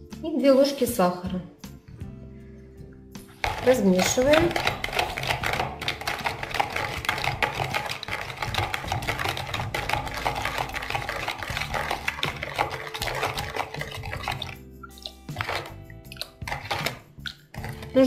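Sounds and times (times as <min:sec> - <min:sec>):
liquid swishing: 0:03.2 - 0:18.0
spoon scraping and clinking bowl: 0:03.3 - 0:18.0.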